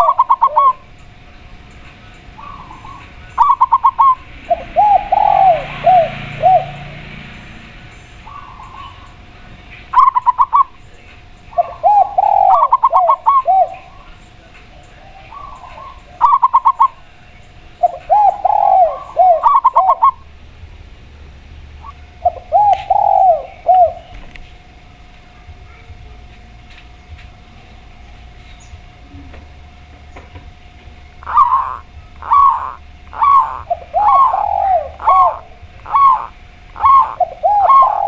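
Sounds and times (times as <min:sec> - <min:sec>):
doves cooing: 0:00.0 - 0:38.0.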